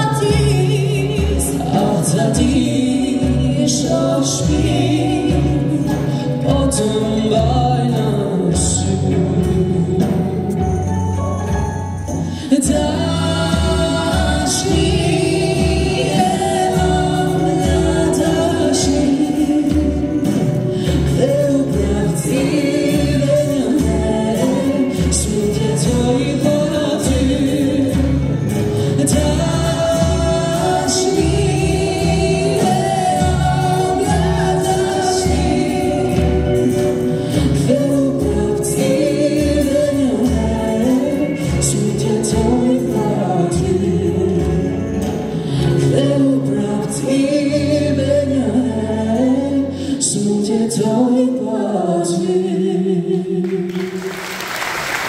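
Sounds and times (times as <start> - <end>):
orchestra with drums and keyboard: 0.0 - 52.7
man and woman singing duet: 0.0 - 55.0.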